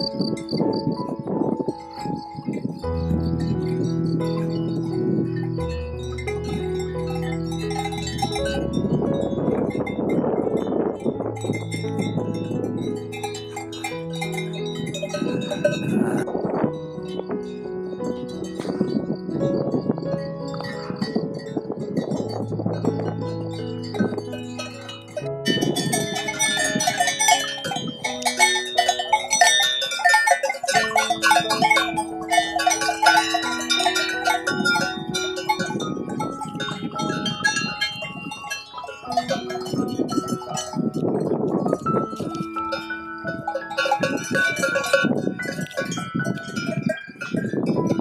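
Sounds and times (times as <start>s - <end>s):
cowbells clanking and ringing: 0.0s - 16.3s, 20.4s - 48.0s.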